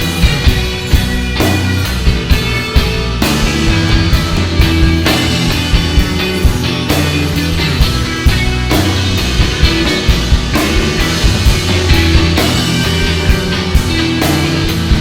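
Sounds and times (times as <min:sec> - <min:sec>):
bass guitar: 0:00.0 - 0:15.0
drum kit: 0:00.0 - 0:15.0
guitars: 0:00.0 - 0:15.0.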